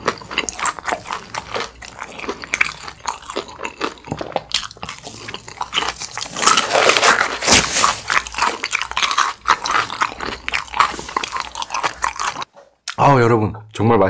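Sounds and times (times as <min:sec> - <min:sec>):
chewing and wet mouth sounds: 0:00.0 - 0:13.0.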